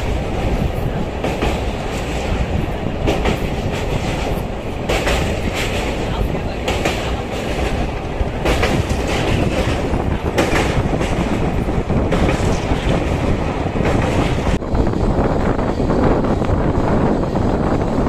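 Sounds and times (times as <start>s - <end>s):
train wheels clacking over rail joints: 0.0s - 14.6s.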